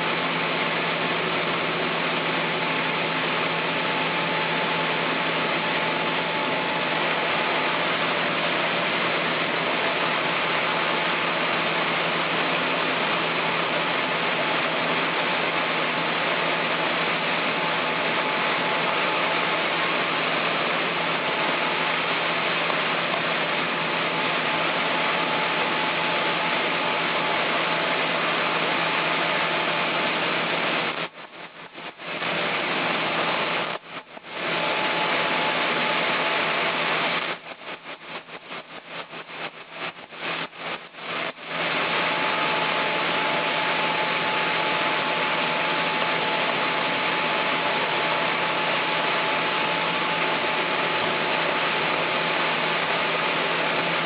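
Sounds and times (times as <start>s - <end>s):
sawmill machinery running: 0.0s - 31.1s, 31.9s - 54.0s
faint whine: 0.0s - 54.0s.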